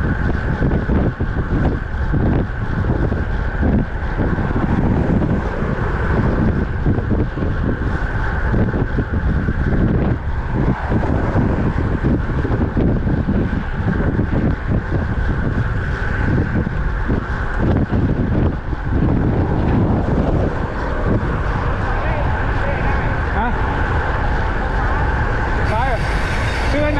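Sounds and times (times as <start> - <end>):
road noise: 0.0 - 26.9
wind buffeting microphone: 0.0 - 26.9.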